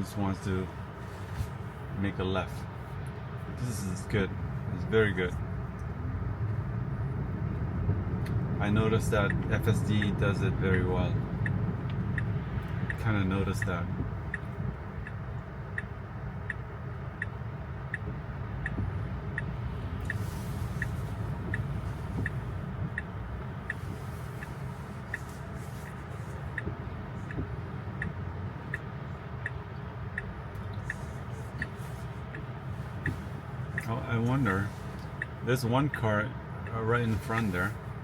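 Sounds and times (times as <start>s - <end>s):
tyres rumbling on wet road: 0.0s - 38.0s
turn signal ticking: 1.5s - 38.0s.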